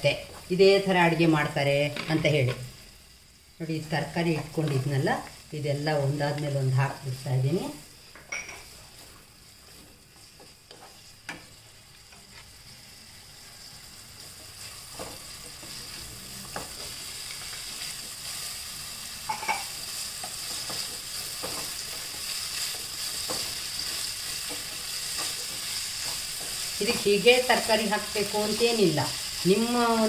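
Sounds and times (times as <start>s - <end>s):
vegetables sizzling in hot oil: 0.0s - 30.0s.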